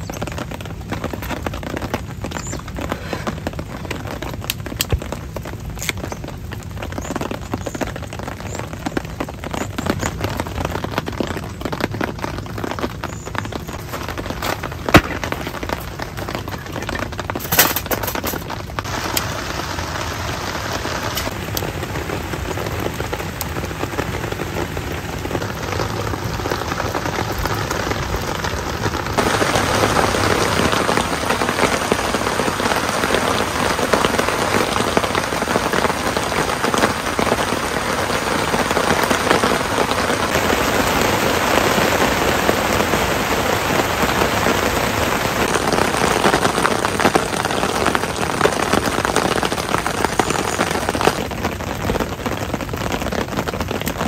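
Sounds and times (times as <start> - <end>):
rain on a tarp: 0.0 - 54.0.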